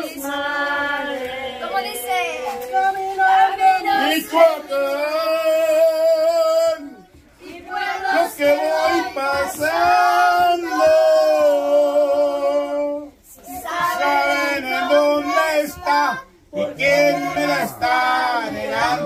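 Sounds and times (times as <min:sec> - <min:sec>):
man and women singing unaccompanied: 0:00.0 - 0:19.0.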